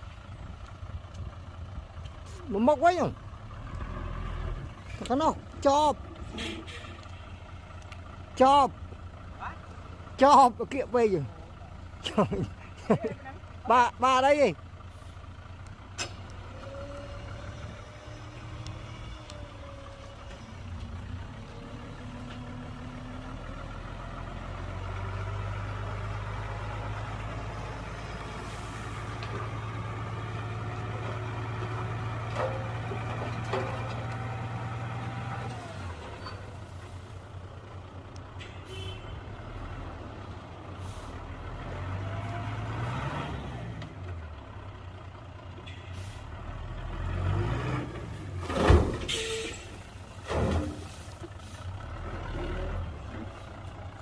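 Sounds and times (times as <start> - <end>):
diesel machinery engine revving: 0.3 - 54.0.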